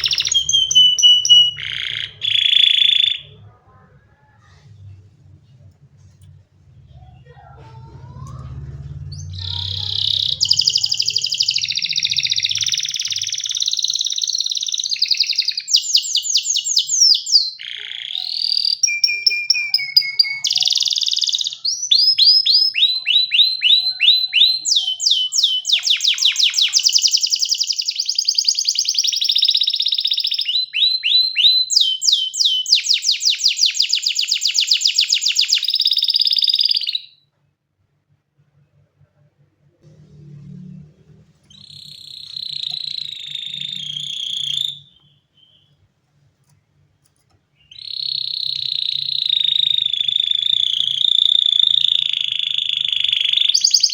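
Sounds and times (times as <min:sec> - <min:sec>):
canary singing trills: 0:00.0 - 0:04.4, 0:06.8 - 0:37.2, 0:41.1 - 0:45.9, 0:47.6 - 0:53.9.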